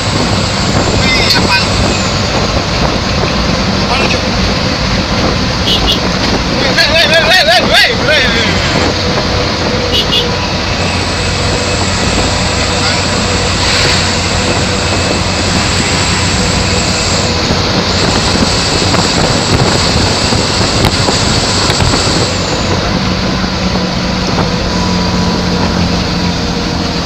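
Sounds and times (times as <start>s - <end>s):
truck driving at high speed: 0.0s - 27.0s.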